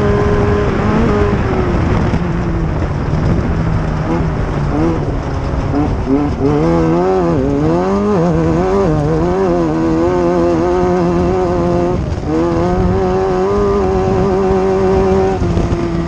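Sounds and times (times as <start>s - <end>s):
race vehicle engine revving: 0.0s - 16.0s.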